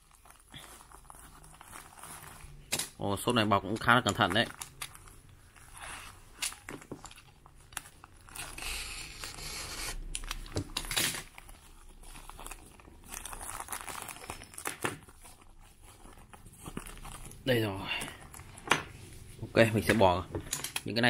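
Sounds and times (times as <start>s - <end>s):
plastic mailer crinkling and tearing: 0.0s - 19.0s
plastic bag rustling: 0.0s - 20.6s.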